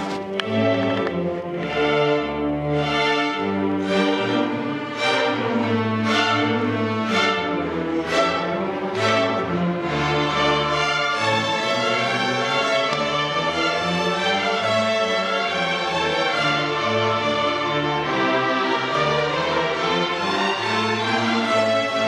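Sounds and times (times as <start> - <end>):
string orchestra playing: 0.0 - 22.0.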